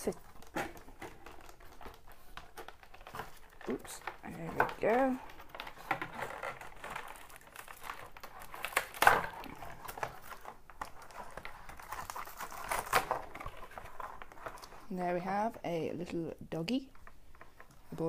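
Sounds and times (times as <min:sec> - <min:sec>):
plastic blister packaging crinkling: 0:00.0 - 0:15.5.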